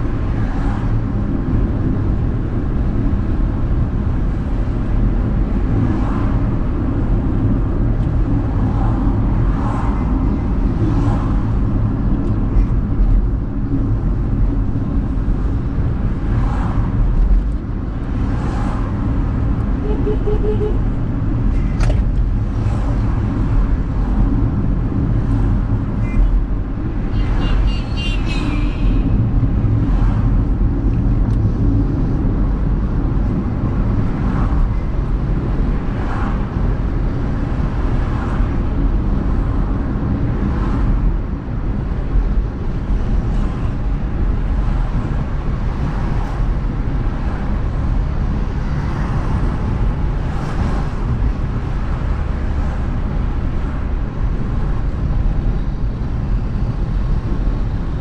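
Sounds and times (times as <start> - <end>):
car engine and tyre rumble: 0.0 - 58.0
passing traffic: 0.0 - 58.0.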